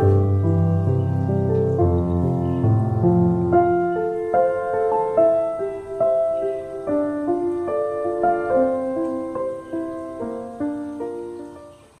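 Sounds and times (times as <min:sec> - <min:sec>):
piano single notes: 0:00.0 - 0:12.0.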